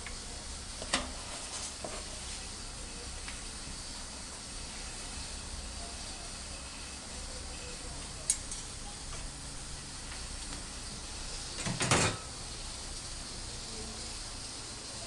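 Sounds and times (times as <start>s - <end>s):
gas burner hissing: 0.0s - 15.0s.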